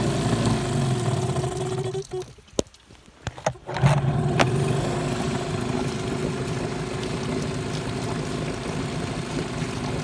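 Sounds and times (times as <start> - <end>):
outboard motor idling: 0.0 - 2.4, 3.6 - 10.0.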